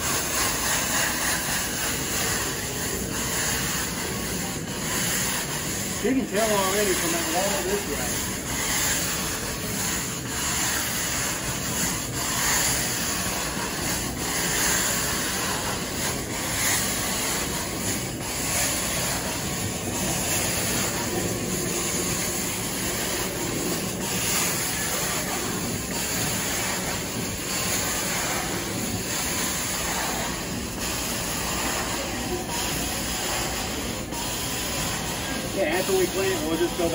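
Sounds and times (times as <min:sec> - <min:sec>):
carpet extraction wand hissing: 0:00.0 - 0:36.9.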